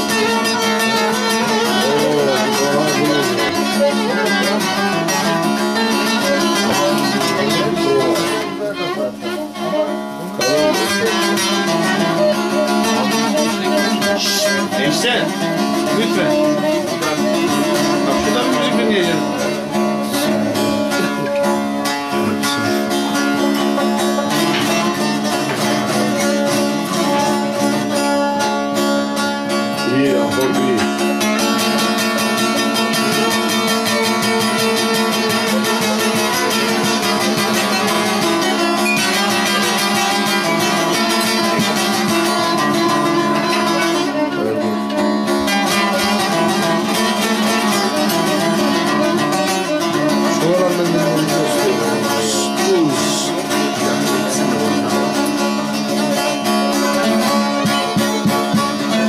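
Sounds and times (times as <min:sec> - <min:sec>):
long-necked lute fast plucking: 0:00.0 - 0:59.0.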